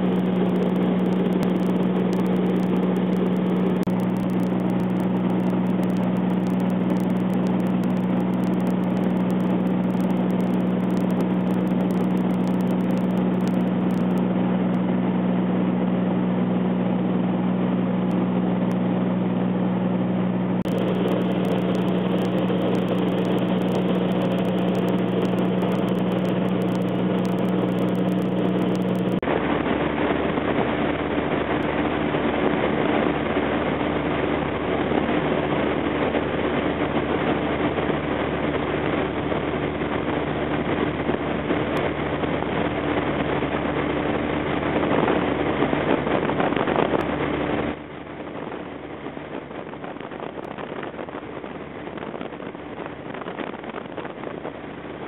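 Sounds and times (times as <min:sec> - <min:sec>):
light aircraft engine drone: 0:00.0 - 0:55.0
rushing air noise: 0:00.0 - 0:55.0.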